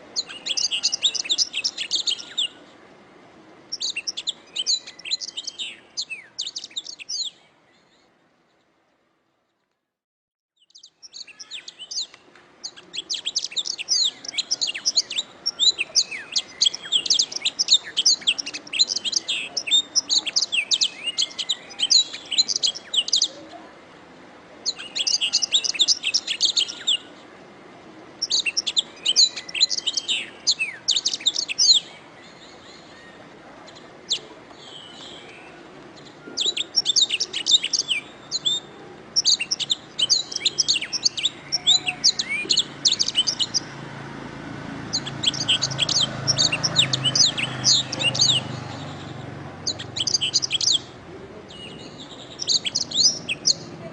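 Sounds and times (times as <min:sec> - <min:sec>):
canary singing: 0:00.1 - 0:02.7, 0:03.7 - 0:07.4, 0:10.6 - 0:23.4, 0:24.6 - 0:27.2, 0:28.1 - 0:53.8.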